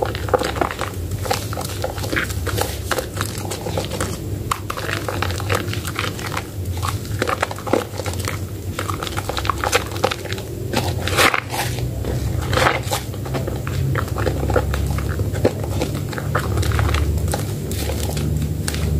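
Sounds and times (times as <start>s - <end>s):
foam crackling: 0.0s - 18.9s
steady low hum: 0.0s - 18.9s
wet soap squelching: 0.0s - 18.9s.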